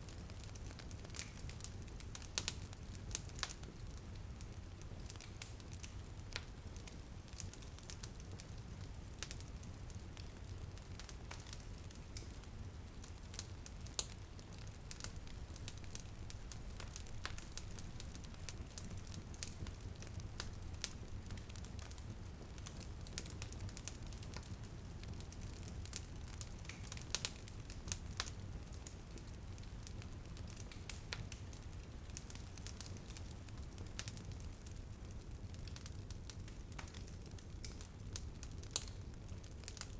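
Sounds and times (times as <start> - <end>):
wood fire crackling: 0.0 - 39.9
low fire rumble: 0.1 - 39.9.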